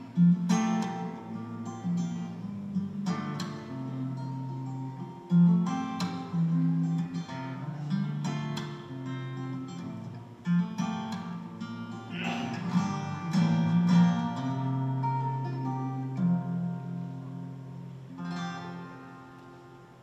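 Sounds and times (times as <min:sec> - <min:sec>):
fingerstyle acoustic guitar: 0:00.0 - 0:20.0.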